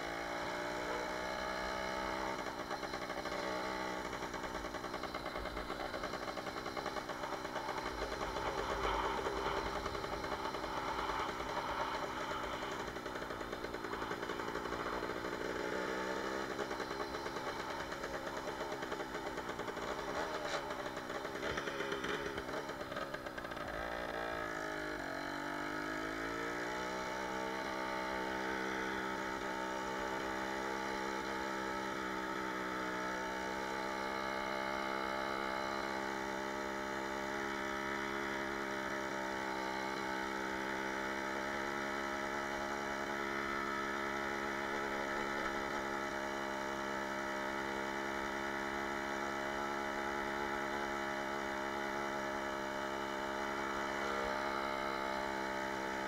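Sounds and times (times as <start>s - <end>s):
moped two-stroke engine running: 0.0s - 56.0s.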